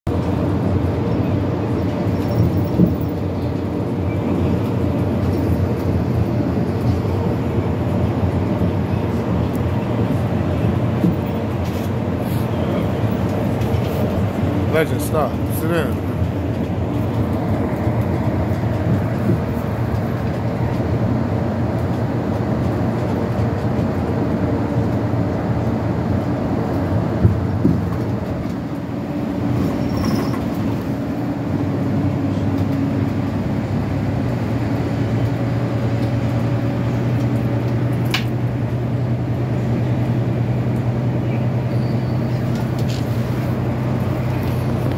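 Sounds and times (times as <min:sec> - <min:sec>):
bus engine and road drone: 0:00.0 - 0:44.9.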